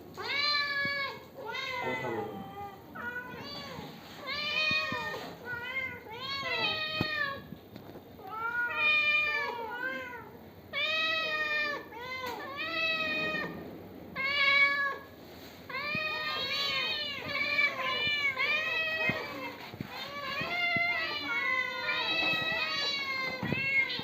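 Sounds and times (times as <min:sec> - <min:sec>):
cat meowing: 0:00.2 - 0:07.5, 0:08.2 - 0:13.6, 0:15.7 - 0:24.0.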